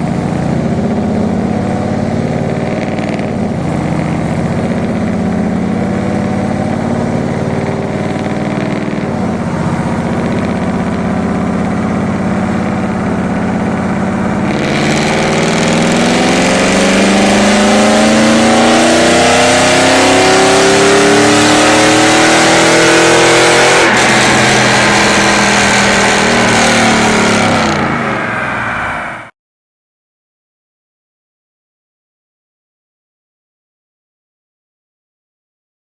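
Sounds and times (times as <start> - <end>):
vee eight engine revving: 0.0 - 29.3.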